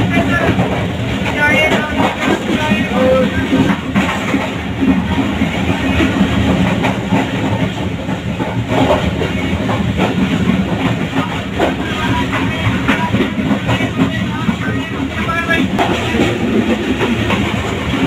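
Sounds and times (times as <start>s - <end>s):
clacks over rail joints: 0.0s - 18.0s
train wheels rumbling on rail: 0.0s - 18.0s.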